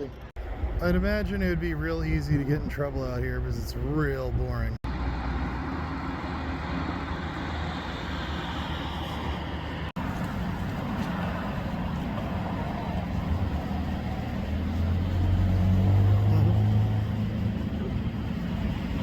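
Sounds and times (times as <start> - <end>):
low engine hum: 0.0 - 19.0
vehicles passing: 0.0 - 19.0.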